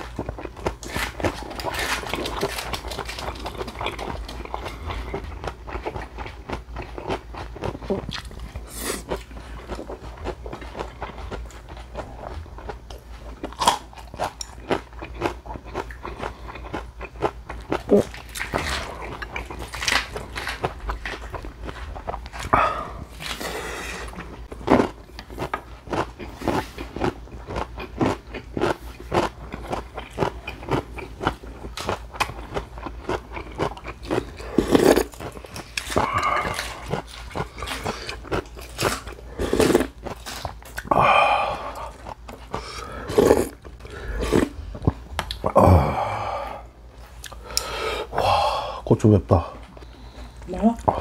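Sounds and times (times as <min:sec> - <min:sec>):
wet chewing and crunching: 0:00.0 - 0:48.2.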